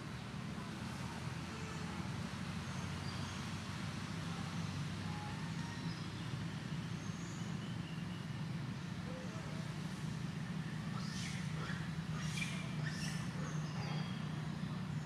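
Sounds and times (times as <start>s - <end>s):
distant engine humming: 0.8s - 15.0s.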